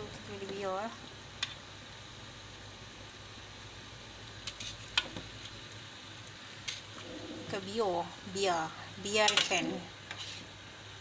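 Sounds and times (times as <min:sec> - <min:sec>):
liquid simmering hiss: 0:00.0 - 0:11.0.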